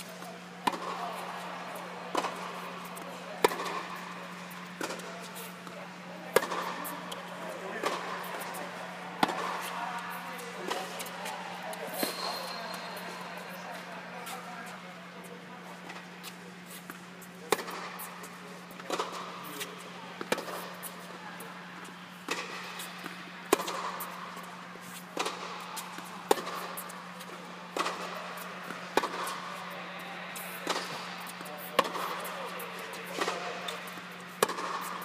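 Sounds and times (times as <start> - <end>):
steady low hum: 0.1 - 35.0.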